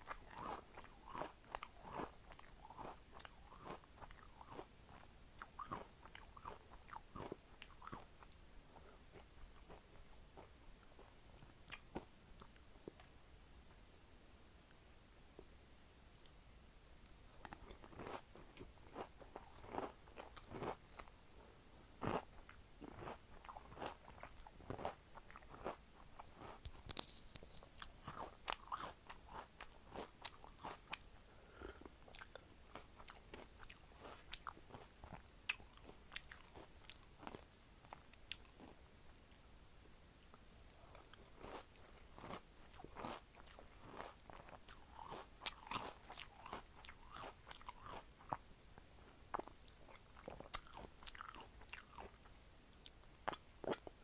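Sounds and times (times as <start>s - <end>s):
chewing crunchy cereal: 0.0s - 13.2s, 17.4s - 21.2s, 22.0s - 39.6s, 40.2s - 48.4s, 49.0s - 54.0s.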